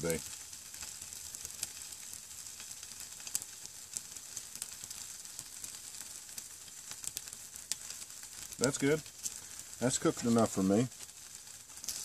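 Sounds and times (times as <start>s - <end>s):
meat sizzling with small pops: 0.0s - 12.0s.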